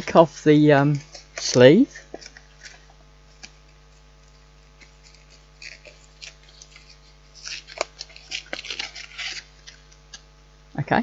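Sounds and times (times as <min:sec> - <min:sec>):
cardboard scraping and crinkling: 0:00.8 - 0:10.2.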